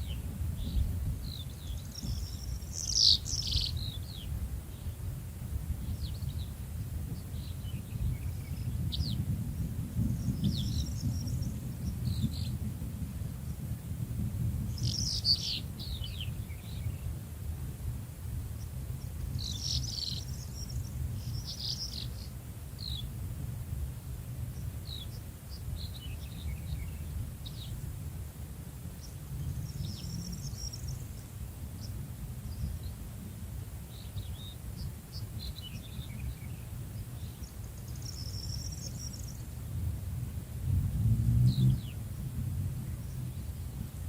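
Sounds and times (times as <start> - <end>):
small birds chirping: 0.0 - 13.8, 14.6 - 17.2, 18.5 - 23.2, 24.5 - 28.0, 28.9 - 39.9, 40.7 - 43.9
steady low rumble: 0.0 - 44.0.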